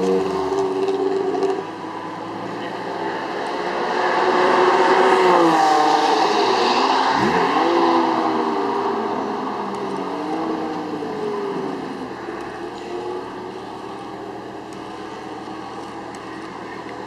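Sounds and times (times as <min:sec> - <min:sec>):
sports car engine revving: 0:02.3 - 0:17.0.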